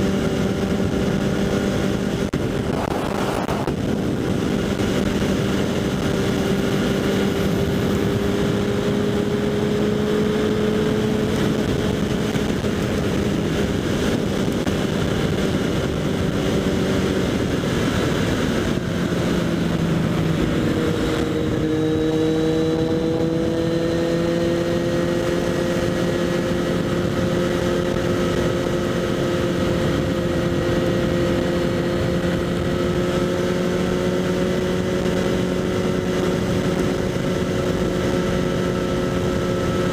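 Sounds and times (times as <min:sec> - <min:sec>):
motorcycle engine riding: 0:00.0 - 0:39.9
wind rush: 0:00.0 - 0:39.9.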